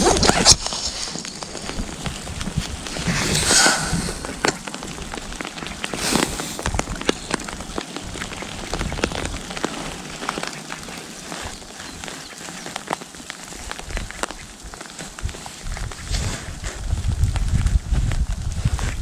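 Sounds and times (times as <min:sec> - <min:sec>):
wind rumble on microphone: 0:00.0 - 0:12.7, 0:13.5 - 0:19.0
rain drops ticking: 0:00.0 - 0:19.0
steady rain hiss: 0:00.0 - 0:19.0.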